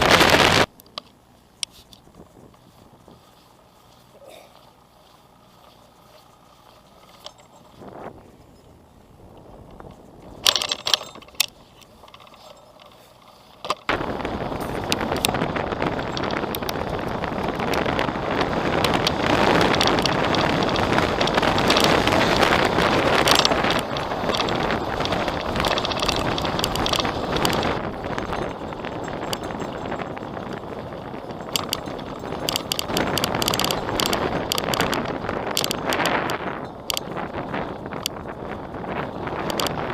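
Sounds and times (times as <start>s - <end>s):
wind noise on microphone: 0.0s - 0.7s, 1.6s - 12.9s, 13.6s - 39.9s
bicycle drivetrain clicks and rattle: 0.0s - 39.9s.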